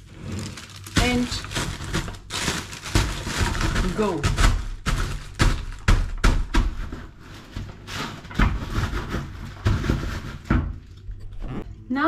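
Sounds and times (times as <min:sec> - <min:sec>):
plastic bag rustling: 0:00.0 - 0:10.8
rolling pin crushing crumble: 0:00.0 - 0:11.1.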